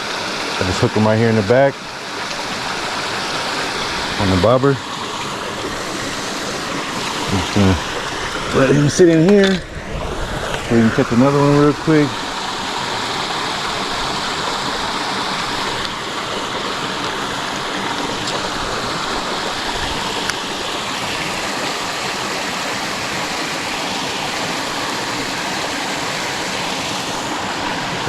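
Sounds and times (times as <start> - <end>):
water rushing over spillway: 0.0 - 28.0.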